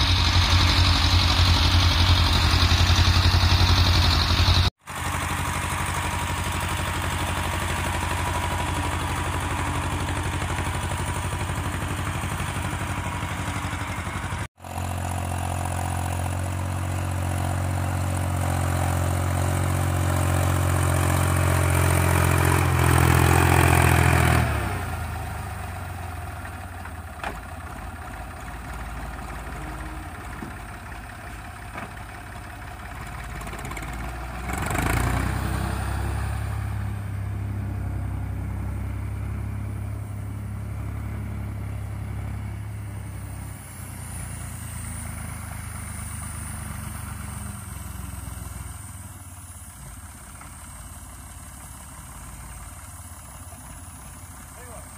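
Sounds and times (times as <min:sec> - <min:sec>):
tractor diesel engine droning: 0:00.0 - 0:54.9.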